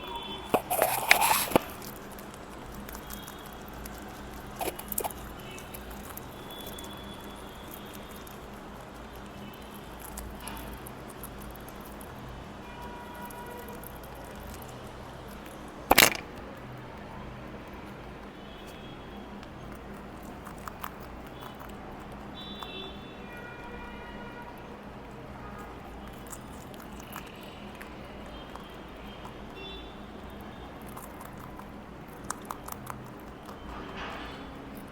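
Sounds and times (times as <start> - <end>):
rabbits chewing food: 0.0 - 34.9.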